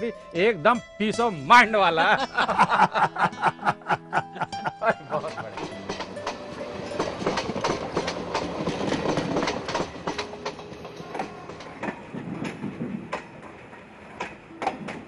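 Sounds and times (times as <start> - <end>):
train rumble: 2.2 - 15.0
train wheels clattering: 2.4 - 15.0.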